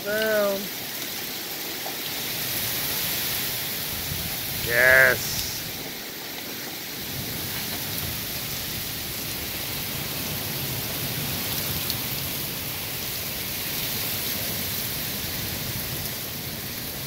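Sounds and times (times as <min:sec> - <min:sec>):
heavy rain pouring on street: 0:00.0 - 0:17.0.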